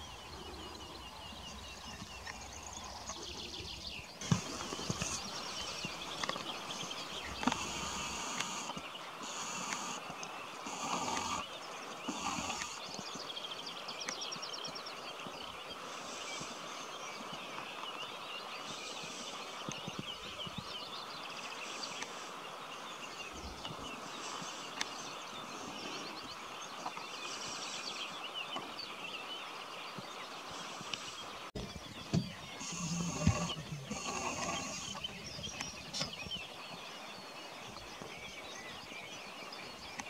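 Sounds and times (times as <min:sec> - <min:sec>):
outdoor background hiss: 0:00.0 - 0:40.0
wild birds singing: 0:00.0 - 0:40.0.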